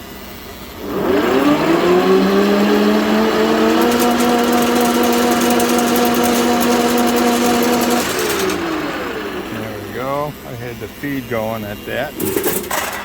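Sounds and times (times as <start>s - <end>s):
lathe headstock whine: 0.7s - 12.6s.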